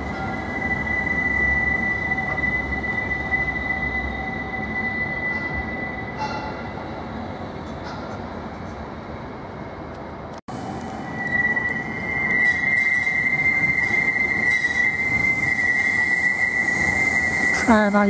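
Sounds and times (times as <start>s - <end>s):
tram wheels squealing: 0.0s - 9.8s, 10.6s - 18.0s
low rumble of tram: 0.0s - 18.0s.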